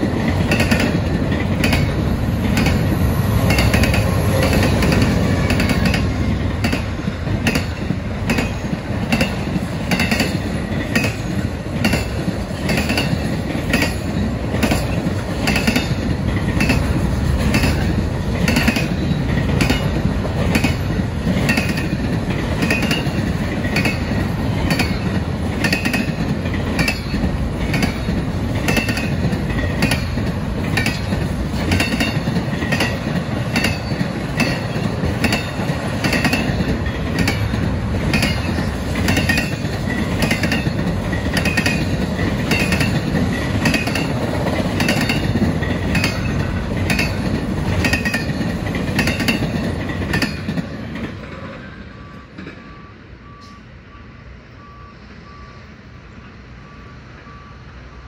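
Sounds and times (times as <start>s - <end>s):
wheels clicking over rail joints: 0.0s - 52.6s
freight train rumbling past: 0.0s - 58.0s.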